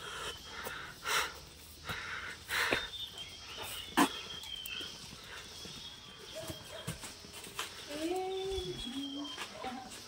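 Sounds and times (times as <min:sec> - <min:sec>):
footsteps on concrete: 0:01.4 - 0:10.0.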